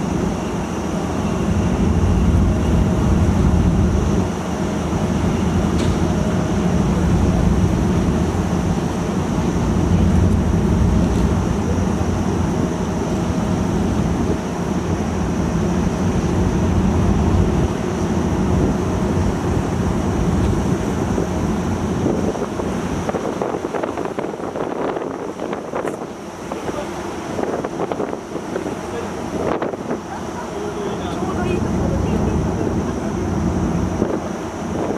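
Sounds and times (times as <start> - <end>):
ferry engines deep rumble: 0.0 - 34.9.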